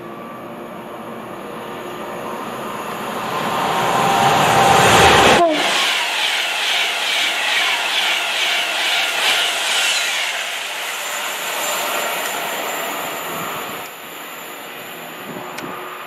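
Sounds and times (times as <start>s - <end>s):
train rushing past: 0.0s - 16.0s
train wheels clattering on rails: 2.0s - 15.7s.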